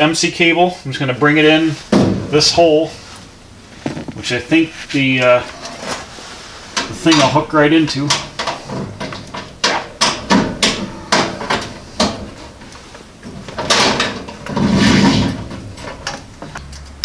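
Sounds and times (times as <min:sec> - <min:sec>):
cable scraping rustles: 0:02.6 - 0:16.6.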